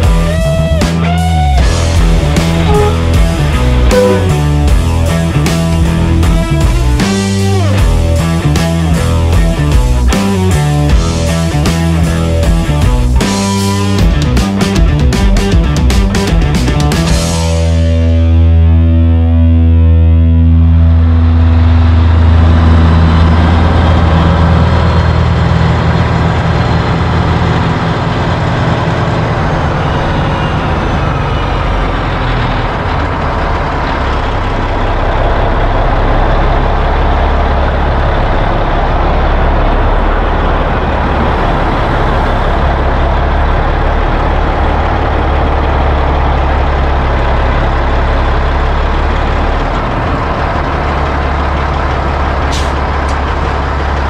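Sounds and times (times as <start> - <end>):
road noise: 0.0 - 54.0
truck diesel engine drone: 0.0 - 54.0.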